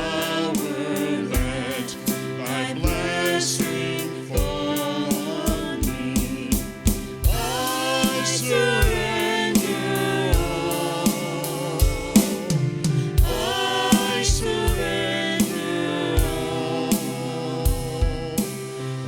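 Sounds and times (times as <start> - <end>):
band with drum beat: 0.0 - 18.9
voices singing: 0.0 - 19.0.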